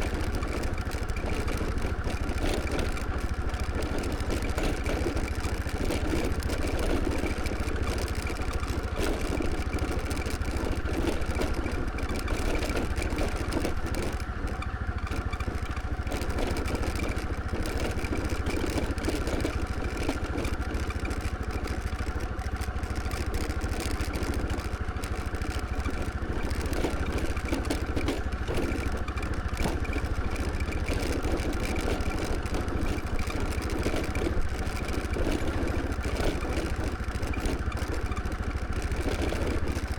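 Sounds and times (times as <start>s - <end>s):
road and wind rumble: 0.0s - 39.9s
scooter engine running: 0.0s - 39.9s.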